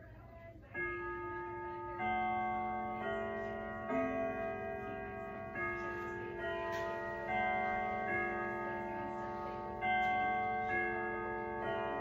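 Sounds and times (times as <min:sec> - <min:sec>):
grandfather clock chiming: 0:00.7 - 0:12.0.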